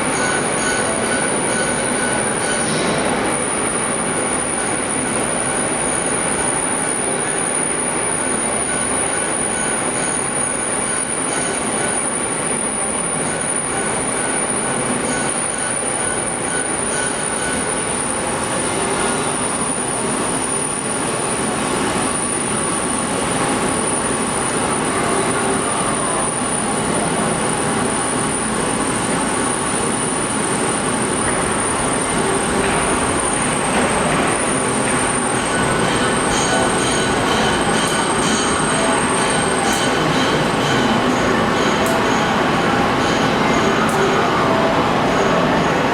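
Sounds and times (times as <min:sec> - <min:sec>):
metal lathe running: 0:00.0 - 0:45.9
thin high whine: 0:00.0 - 0:45.9.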